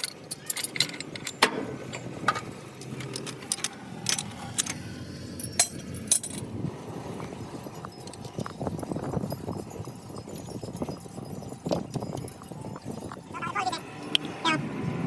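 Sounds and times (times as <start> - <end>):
metallic clinks and taps: 0.0 - 4.8, 5.4 - 6.5, 7.2 - 13.4.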